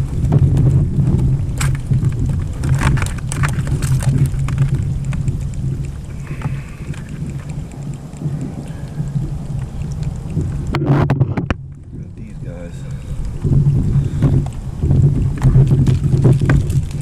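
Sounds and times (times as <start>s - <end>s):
rumble of wind and water: 0.0s - 17.0s.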